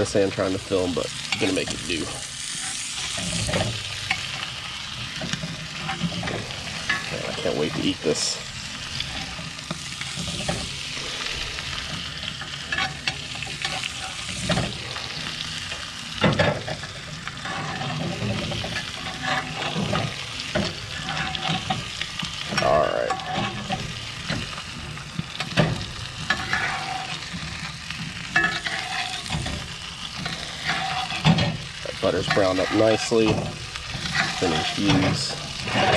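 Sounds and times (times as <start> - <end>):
butter sizzling in a skillet: 0.0 - 35.9
metal spoon scraping a pan: 1.2 - 8.3, 8.9 - 15.4, 16.2 - 24.6, 25.4 - 35.9.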